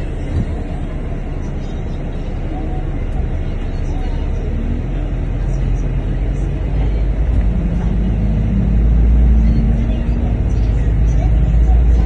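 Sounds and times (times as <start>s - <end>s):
bus engine: 0.0s - 12.0s
low road rumble: 0.0s - 12.0s.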